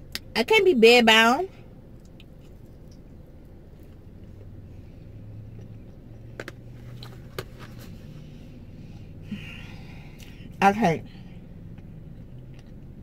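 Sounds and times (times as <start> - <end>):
low car cabin hum: 0.0 - 13.0.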